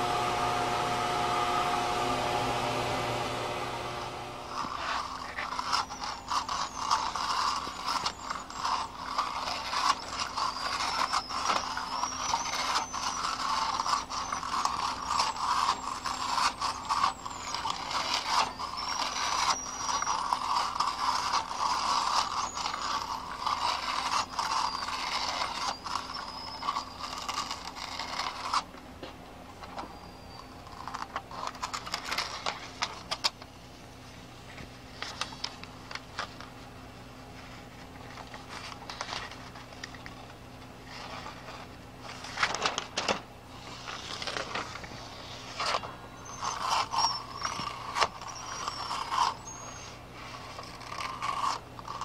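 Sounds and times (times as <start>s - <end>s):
thin high squeaks: 0.0s - 28.7s, 29.6s - 33.6s, 37.4s - 52.0s
tape crackling and creaking: 0.0s - 33.6s, 37.4s - 52.0s.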